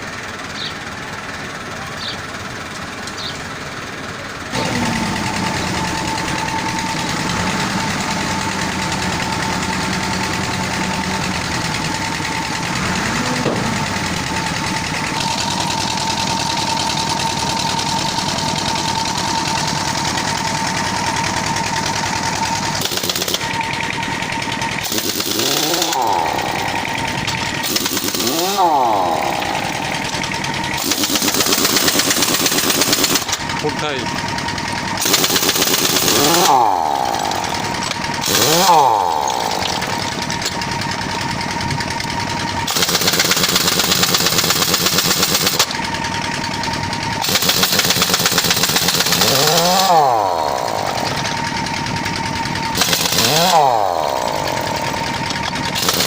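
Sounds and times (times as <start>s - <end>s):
machine whining: 4.1s - 56.0s.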